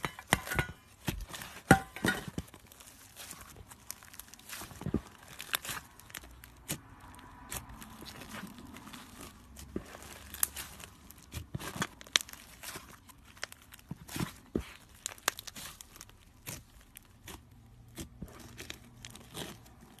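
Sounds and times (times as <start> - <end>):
crunchy slime crackling and popping: 0.8 - 20.0.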